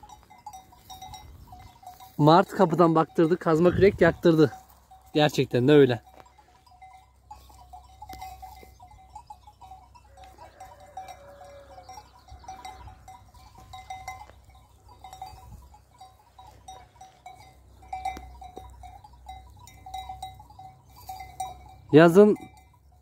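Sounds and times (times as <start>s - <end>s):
sheep bells clinking: 0.0s - 23.0s.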